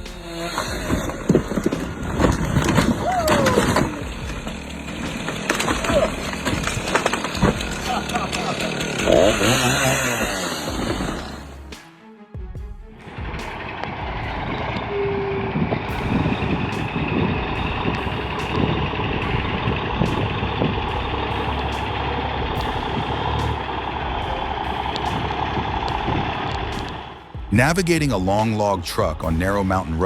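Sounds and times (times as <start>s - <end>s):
heavy truck engine running: 0.0s - 11.8s, 12.9s - 30.0s.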